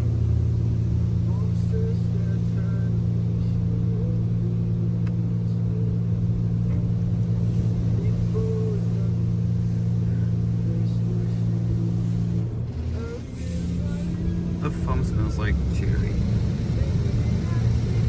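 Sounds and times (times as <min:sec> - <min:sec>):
car wash low hum: 0:00.0 - 0:18.0.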